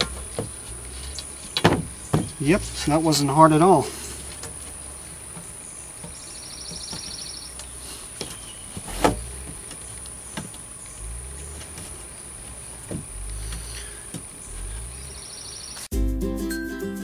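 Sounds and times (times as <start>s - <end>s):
handling knocks and rustles: 0.0s - 14.8s.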